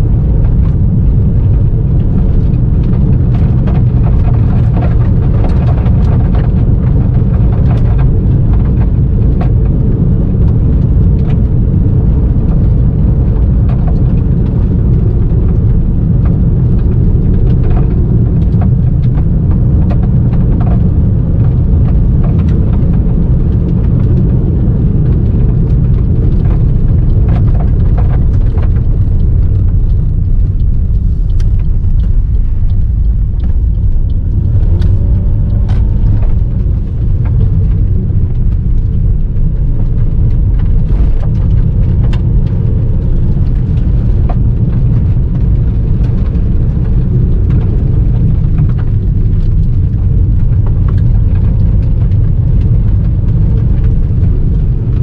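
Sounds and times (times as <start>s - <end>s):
tyres and engine rumble: 0.0s - 55.0s.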